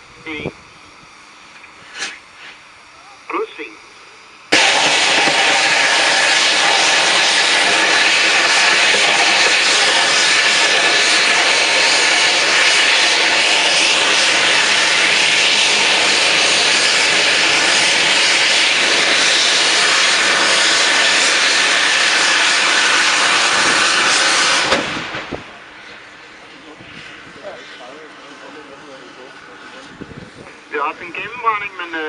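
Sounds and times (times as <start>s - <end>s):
rocket motor roaring hiss: 0.0s - 32.0s.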